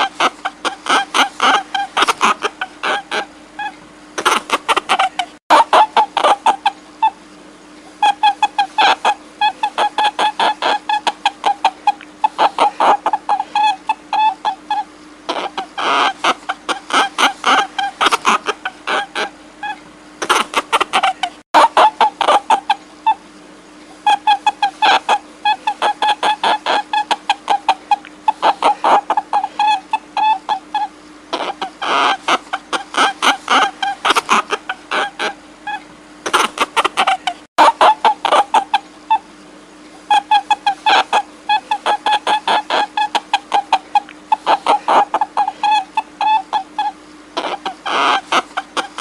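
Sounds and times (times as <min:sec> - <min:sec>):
high-pitched animal cries: 0:00.0 - 0:07.2, 0:08.0 - 0:23.2, 0:24.0 - 0:39.3, 0:40.0 - 0:49.0
faint steady hum: 0:00.0 - 0:49.0.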